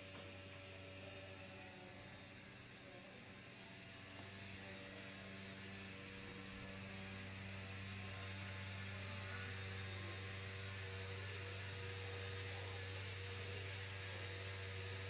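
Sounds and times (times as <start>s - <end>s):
hvac equipment humming: 0.0s - 15.0s.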